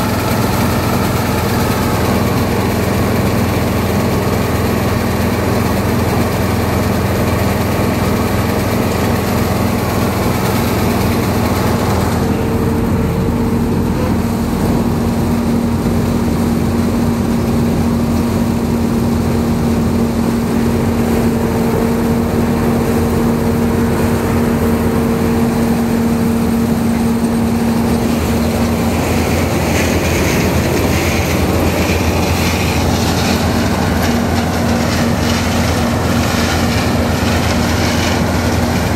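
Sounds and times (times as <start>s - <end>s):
combine harvester running: 0.0s - 38.9s
steady low hum: 0.0s - 38.9s.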